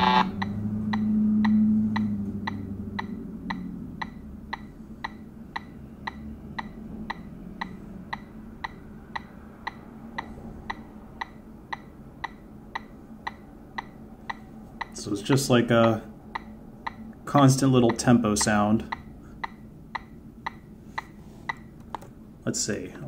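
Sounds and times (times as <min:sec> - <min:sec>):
low hum: 0:00.0 - 0:22.4.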